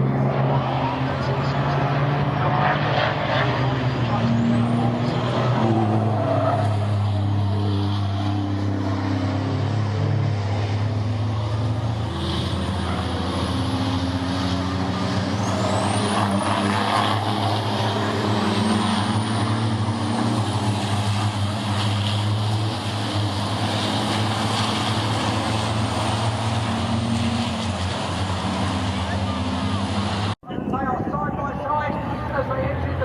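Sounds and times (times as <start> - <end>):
truck engines droning: 0.0 - 33.0.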